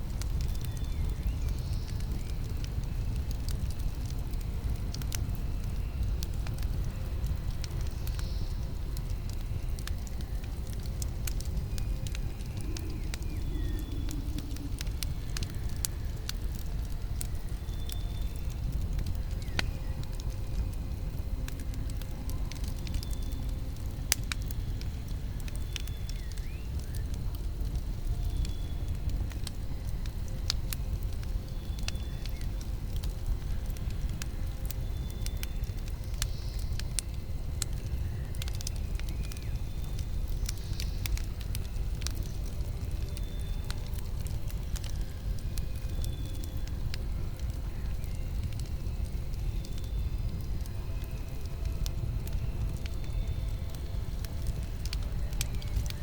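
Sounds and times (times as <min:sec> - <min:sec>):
campfire crackling and popping: 0:00.0 - 0:56.0
fire low rumble: 0:00.0 - 0:56.0.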